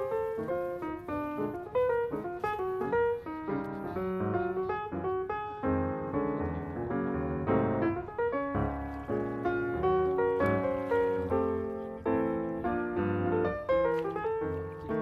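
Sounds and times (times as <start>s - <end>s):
piano playing quick notes: 0.0s - 15.0s.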